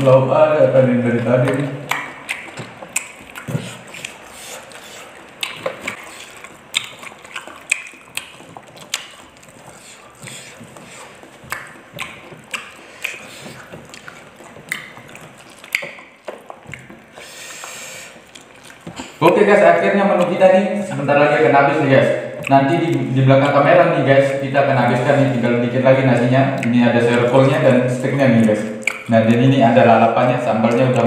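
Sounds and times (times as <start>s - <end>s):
chewing and crunching food: 0.0s - 31.0s
lip smacks: 1.4s - 25.3s, 26.4s - 29.4s.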